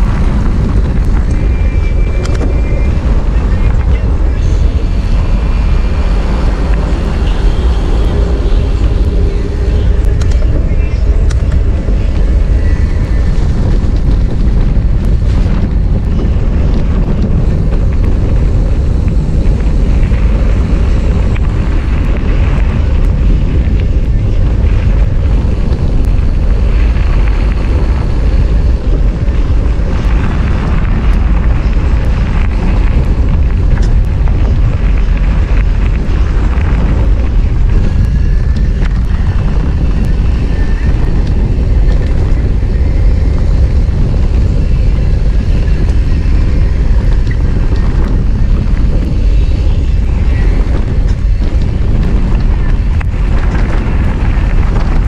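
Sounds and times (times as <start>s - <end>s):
bike tyres rolling: 0.0s - 55.0s
wind buffeting microphone: 0.0s - 55.0s.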